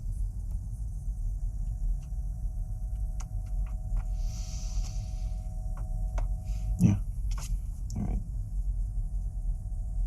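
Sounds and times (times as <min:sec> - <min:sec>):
faint hum: 0:00.0 - 0:10.0
low rumble: 0:00.0 - 0:10.0.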